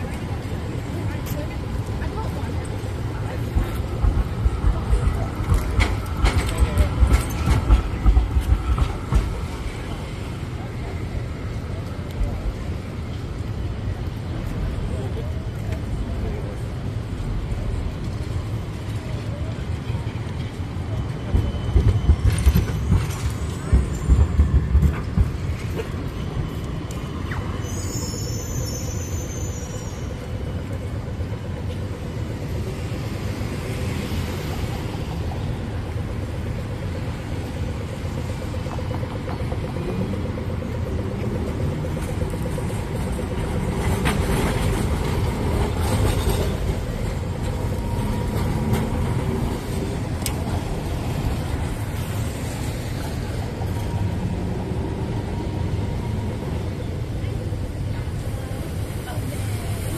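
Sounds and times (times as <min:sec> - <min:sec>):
road traffic rumble: 0:00.0 - 0:59.9
tram wheels: 0:00.0 - 0:59.9.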